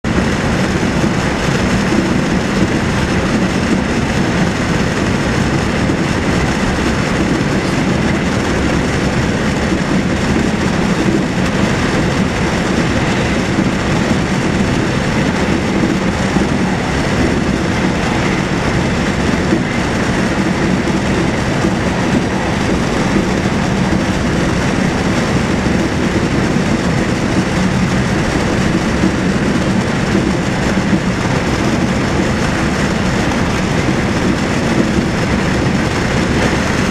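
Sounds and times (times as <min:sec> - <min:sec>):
train rumbling at speed: 0:00.0 - 0:36.9.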